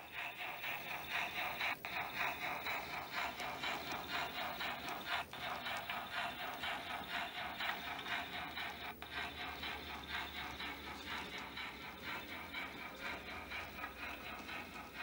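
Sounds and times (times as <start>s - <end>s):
model train rattling: 0.0s - 15.0s.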